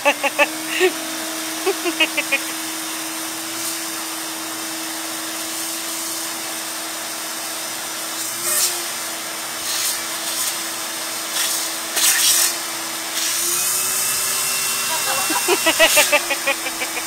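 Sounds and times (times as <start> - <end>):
electric hair clippers buzzing: 0.0 - 6.6, 8.0 - 17.0.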